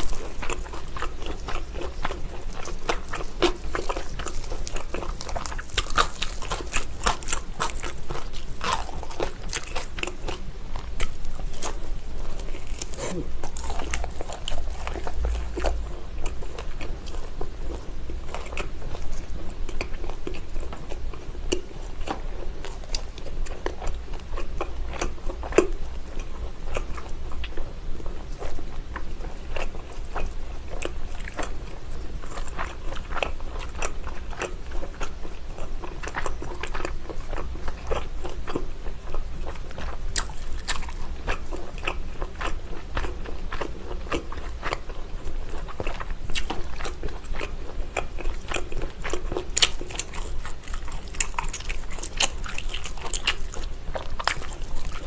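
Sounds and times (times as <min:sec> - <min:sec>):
wet chewing with mouth clicks: 0:00.0 - 0:55.0.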